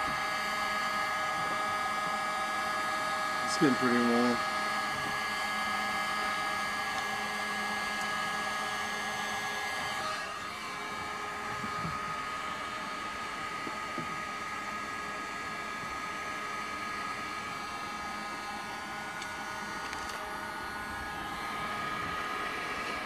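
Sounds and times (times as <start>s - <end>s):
heat gun whirring: 0.0s - 23.0s.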